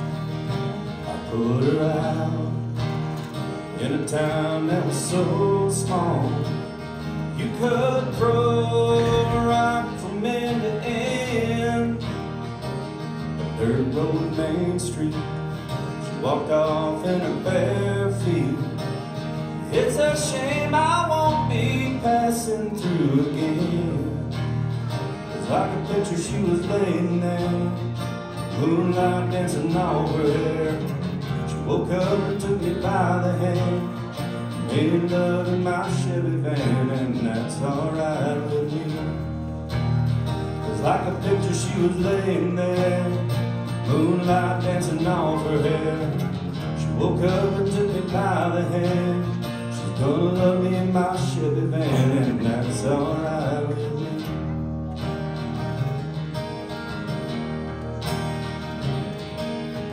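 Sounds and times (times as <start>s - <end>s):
acoustic guitars strummed and picked: 0.0s - 59.9s
man singing: 0.7s - 12.5s, 13.4s - 39.5s, 40.5s - 54.6s.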